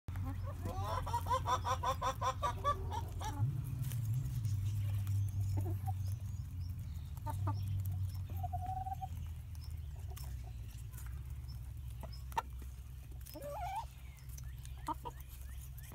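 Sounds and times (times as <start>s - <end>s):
hens clucking: 0.1s - 15.9s.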